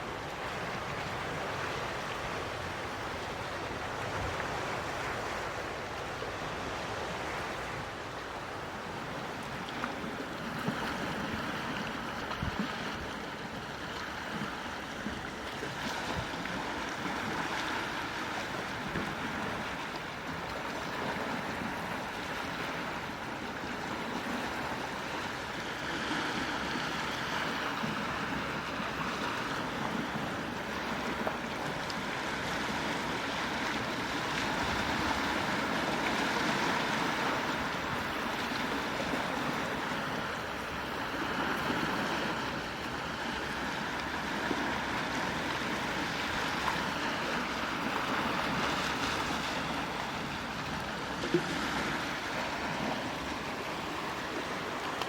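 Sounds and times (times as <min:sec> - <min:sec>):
sea waves washing ashore: 0:00.0 - 0:55.0.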